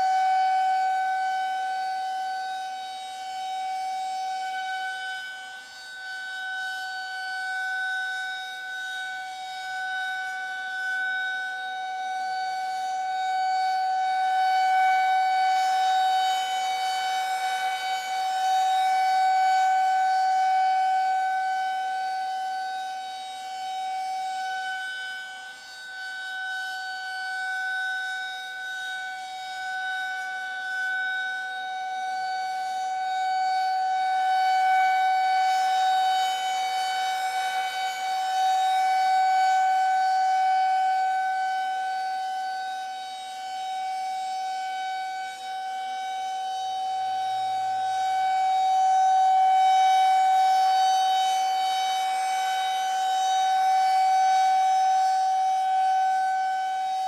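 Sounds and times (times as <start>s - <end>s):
air-raid siren steady tone: 0.0s - 57.0s.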